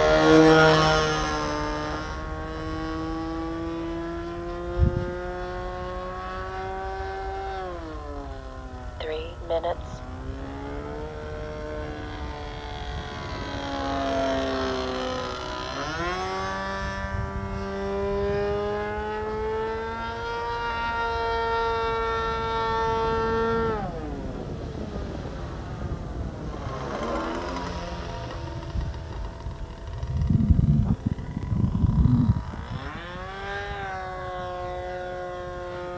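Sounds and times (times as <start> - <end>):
model plane engine buzzing: 0.0 - 35.9
wind rumbling on microphone: 0.0 - 35.9.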